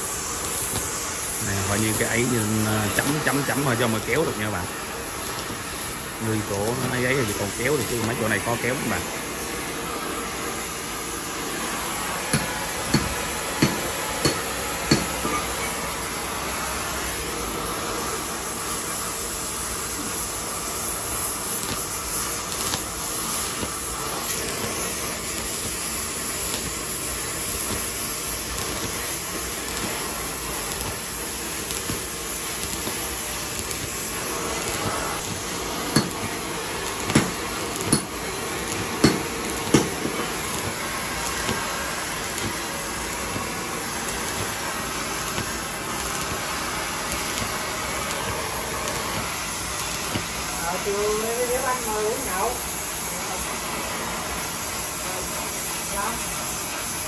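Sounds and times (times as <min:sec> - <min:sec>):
arc welding hiss: 0:00.0 - 0:57.0.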